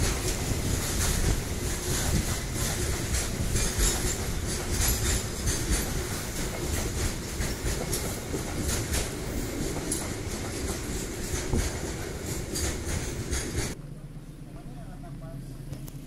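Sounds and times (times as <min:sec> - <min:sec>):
wheels clattering on rails: 0:00.0 - 0:13.8
freight train rumbling past: 0:00.0 - 0:15.3.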